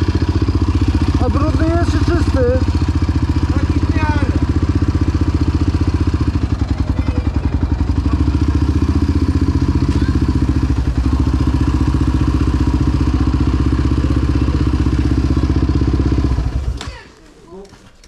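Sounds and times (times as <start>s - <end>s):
quad bike engine idling: 0.0s - 17.1s.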